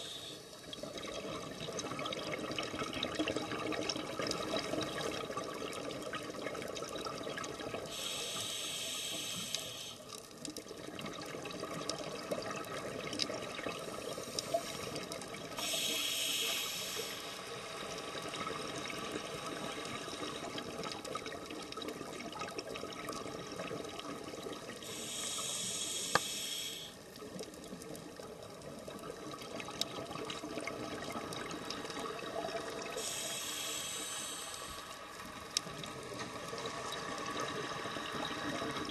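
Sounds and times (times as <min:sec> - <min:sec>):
crackle of fine clicks: 0:00.0 - 0:38.9.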